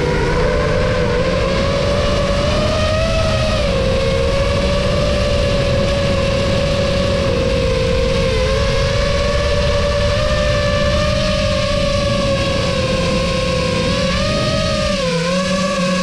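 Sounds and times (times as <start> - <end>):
drone propellers whining: 0.0 - 16.0
low wind rumble: 0.0 - 16.0.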